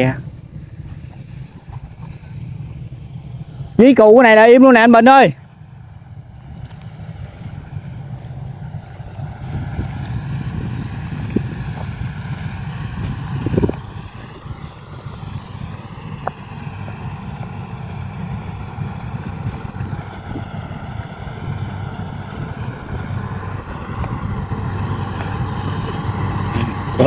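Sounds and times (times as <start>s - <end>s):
combine harvester engine droning: 0.0s - 27.0s.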